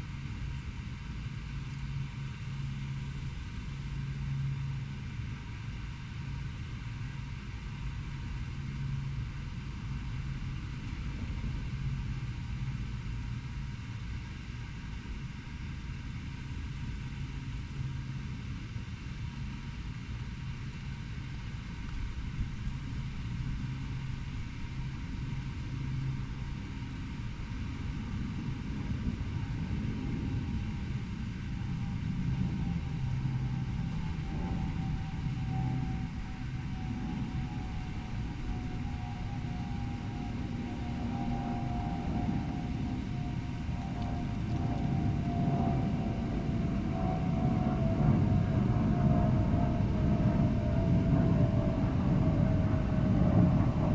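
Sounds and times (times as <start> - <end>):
constant low hum: 0.0 - 53.9
low urban background rumble: 0.0 - 53.9.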